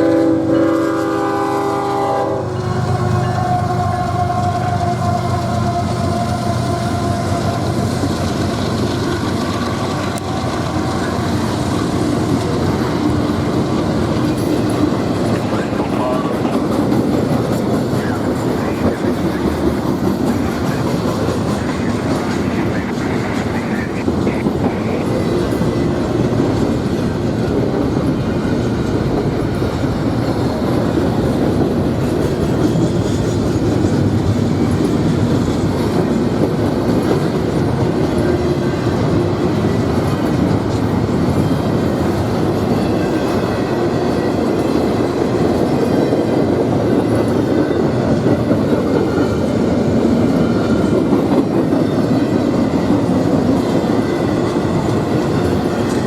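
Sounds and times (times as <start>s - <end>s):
train wheels rolling on track: 0.0s - 56.0s.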